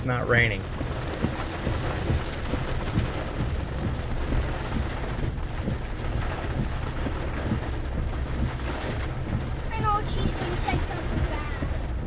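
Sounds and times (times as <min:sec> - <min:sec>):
heavy rain falling: 0:00.0 - 0:12.0
low wind rumble: 0:00.0 - 0:12.0.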